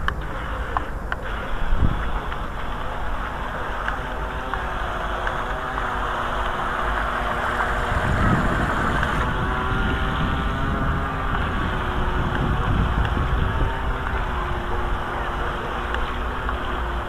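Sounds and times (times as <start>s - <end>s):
faint steady hum: 0.0s - 17.0s
wind buffeting microphone: 0.0s - 17.0s.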